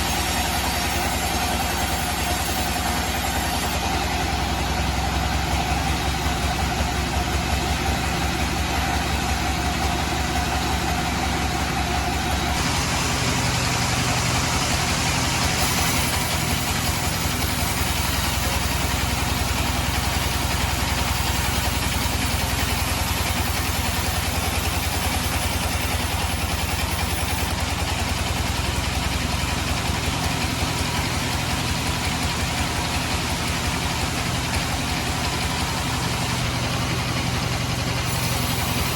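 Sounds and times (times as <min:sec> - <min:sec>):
band sawmill sawing wood: 0:00.0 - 0:38.9.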